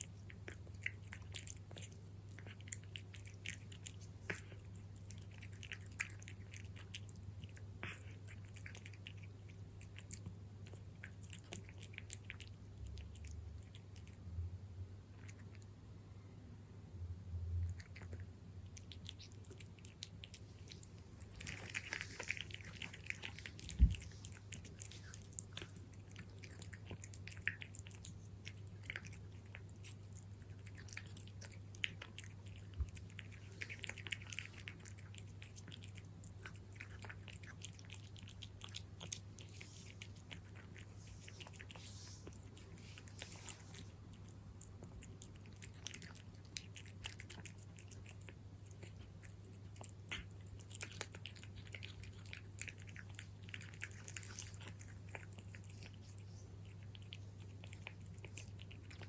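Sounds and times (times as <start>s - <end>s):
cat chewing and crunching food: 0.0s - 16.2s, 17.4s - 59.0s.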